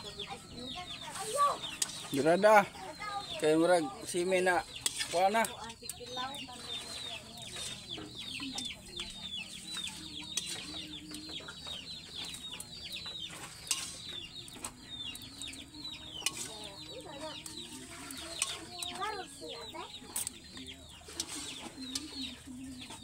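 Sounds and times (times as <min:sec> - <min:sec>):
chickens clucking: 0:00.0 - 0:23.0
spatula clinking on metal pots: 0:00.0 - 0:23.0.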